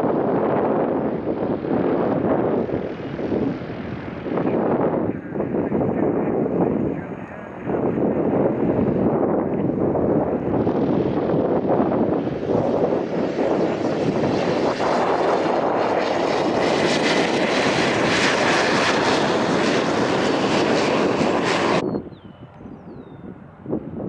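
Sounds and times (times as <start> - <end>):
airplane engine: 0.0 - 24.0.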